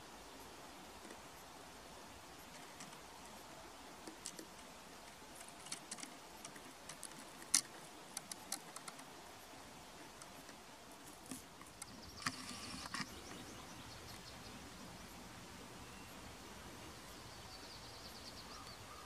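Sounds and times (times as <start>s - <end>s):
small sharp ticks and clicks: 0.0s - 19.0s
soft steady hiss: 0.0s - 19.0s.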